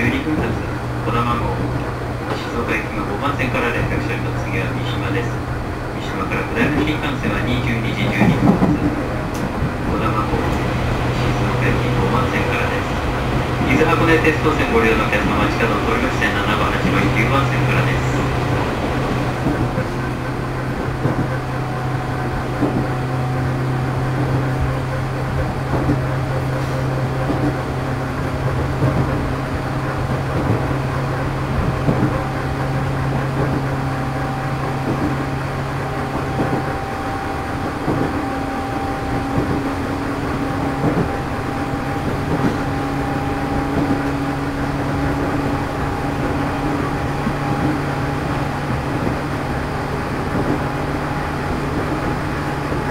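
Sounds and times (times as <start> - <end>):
train motor humming: 0.0 - 52.9
wheels clicking over rails: 0.0 - 52.9.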